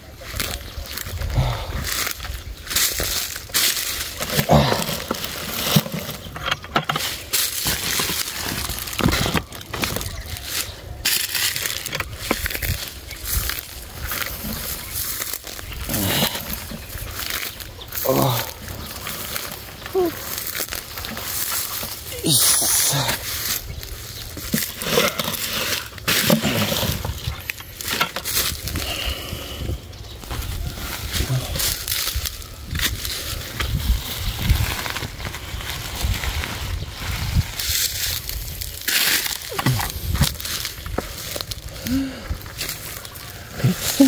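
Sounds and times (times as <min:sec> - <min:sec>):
footsteps crunching dry leaves: 0:00.0 - 0:44.0
plastic sack rustling: 0:00.0 - 0:44.0.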